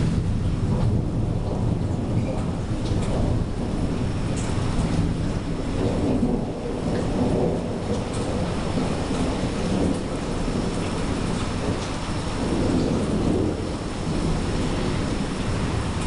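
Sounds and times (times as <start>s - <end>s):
low rumble of thunder: 0.0s - 16.0s
rain falling: 0.0s - 16.0s.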